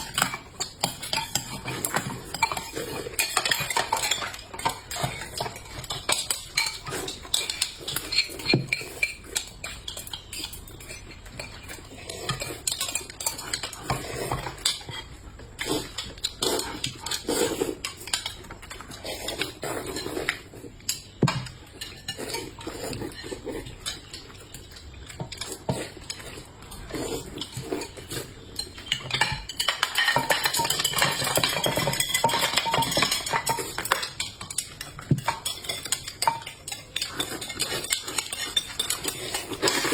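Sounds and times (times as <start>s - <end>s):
chopsticks and bowls clinking: 0.0s - 39.9s
people chewing and slurping: 0.0s - 39.9s.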